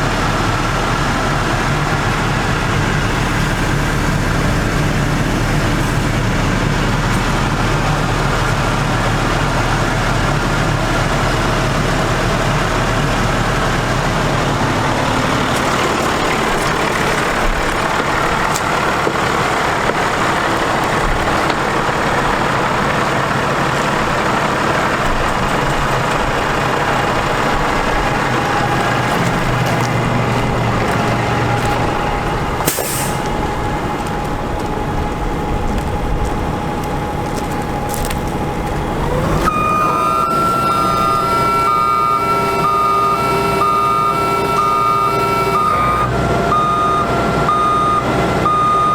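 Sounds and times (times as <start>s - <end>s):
diesel truck engine rumbling: 0.0s - 48.9s.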